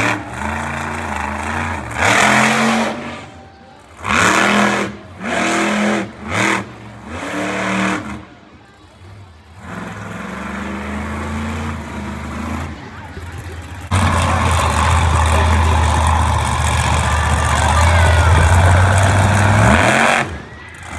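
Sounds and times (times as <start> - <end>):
monster truck engine revving: 0.0 - 20.9.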